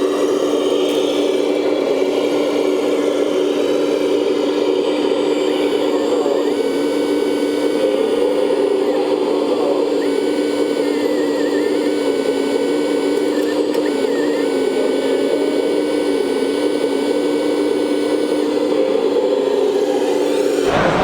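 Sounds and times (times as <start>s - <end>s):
small electric motor whine: 0.0s - 21.0s.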